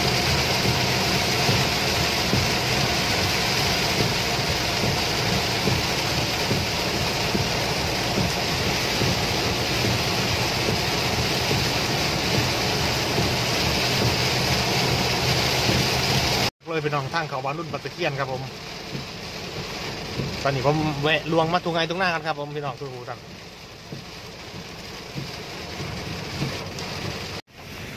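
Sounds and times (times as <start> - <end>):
car running noise: 0.0 - 27.9
heavy rain on car roof: 0.0 - 27.9.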